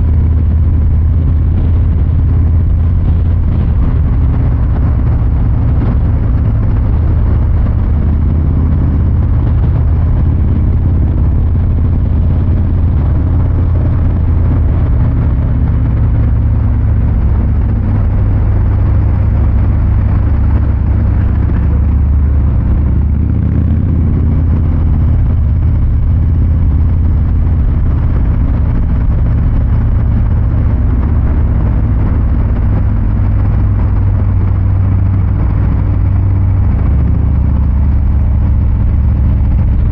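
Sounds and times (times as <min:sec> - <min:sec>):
motorcycle engine low exhaust note: 0:00.0 - 0:39.9.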